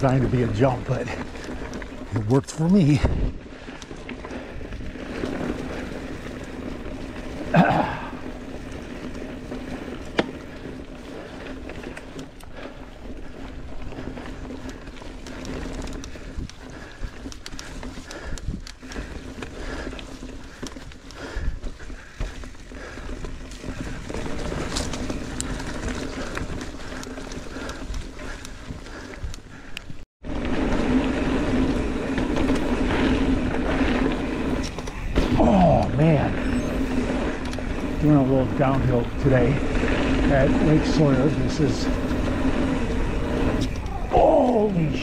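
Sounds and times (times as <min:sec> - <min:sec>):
bike rattles and knocks: 0:00.0 - 0:45.0
bike tyres rolling on dirt: 0:00.0 - 0:45.0.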